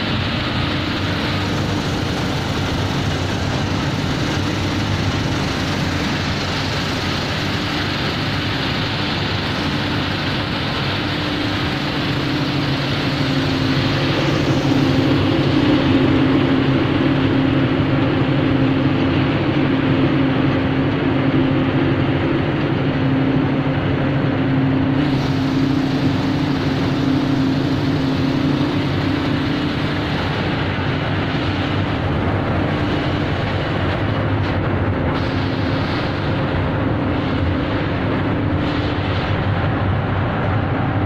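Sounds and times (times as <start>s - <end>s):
machinery droning: 0.0s - 41.0s.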